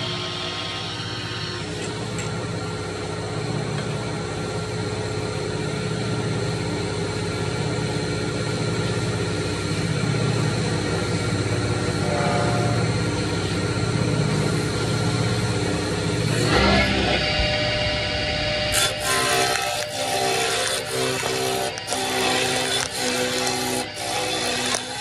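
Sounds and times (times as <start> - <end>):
lathe electric motor humming: 0.0 - 25.0.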